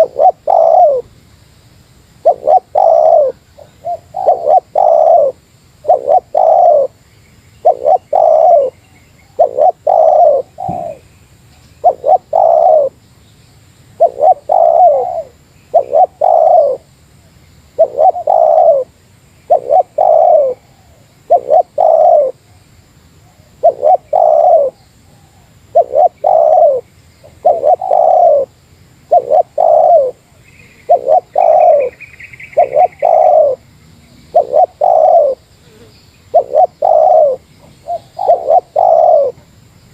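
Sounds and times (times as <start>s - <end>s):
dove cooing: 0.0s - 1.1s, 2.2s - 7.0s, 7.6s - 11.1s, 11.8s - 13.0s, 14.0s - 16.9s, 17.8s - 22.6s, 23.2s - 39.5s
small bird chirping: 2.2s - 39.9s.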